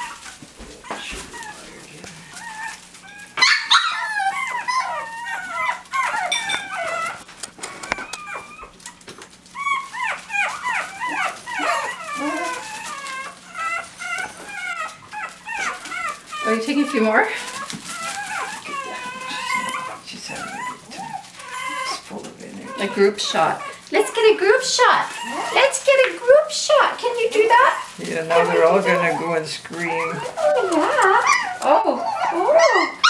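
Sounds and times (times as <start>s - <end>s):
puppies yipping and whining: 0.0s - 33.0s.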